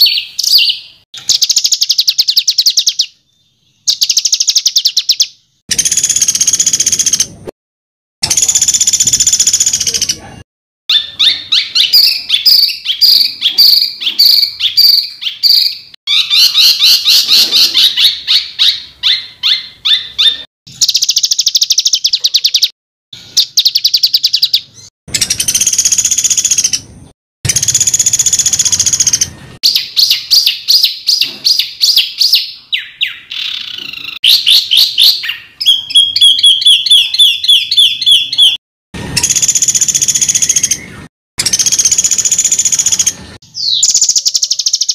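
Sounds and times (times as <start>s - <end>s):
songbird calls with rattling trills: 0.0s - 7.3s, 10.9s - 22.7s, 23.4s - 26.8s, 27.5s - 38.6s, 39.2s - 44.9s.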